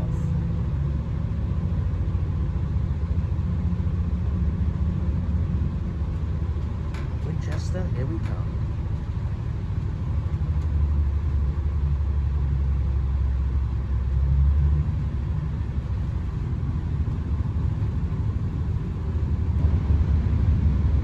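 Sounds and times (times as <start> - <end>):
diesel train rumble in carriage: 0.0 - 21.0.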